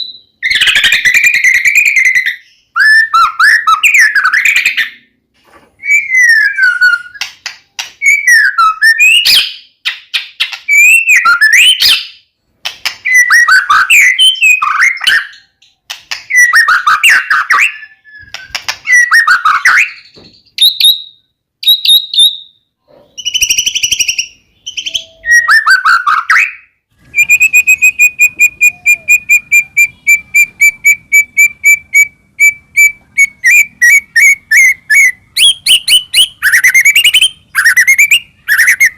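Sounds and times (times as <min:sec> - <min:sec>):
bird singing whistled phrases: 0:00.0 - 0:05.0, 0:05.8 - 0:07.2, 0:08.0 - 0:09.7, 0:10.7 - 0:12.2, 0:13.0 - 0:15.5, 0:16.3 - 0:38.9.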